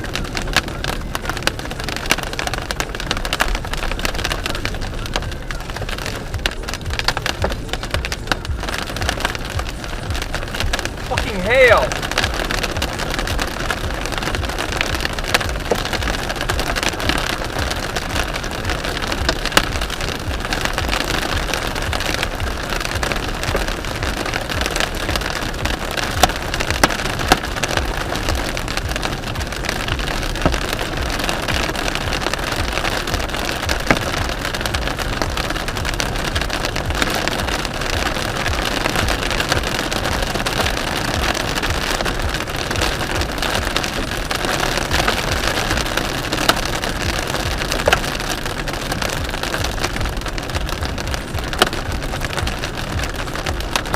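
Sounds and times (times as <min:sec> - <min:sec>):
hail and rain pelting a car: 0:00.0 - 0:53.9.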